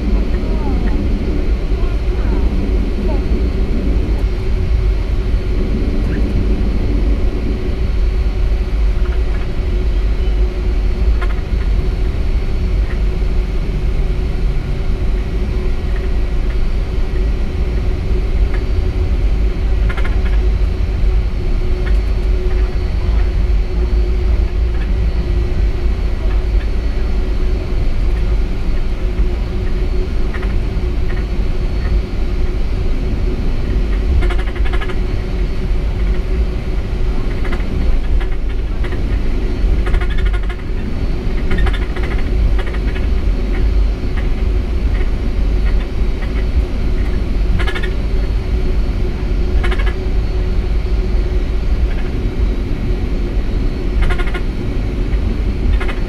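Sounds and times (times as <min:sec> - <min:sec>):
airplane cabin engine rumble: 0:00.0 - 0:56.0
constant hum: 0:00.0 - 0:56.0.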